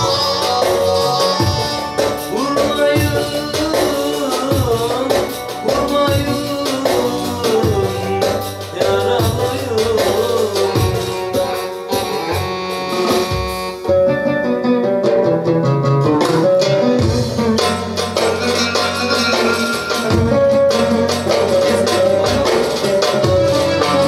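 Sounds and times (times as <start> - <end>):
drum accompaniment: 0.0 - 24.0
electronic keyboard melody: 0.0 - 24.0.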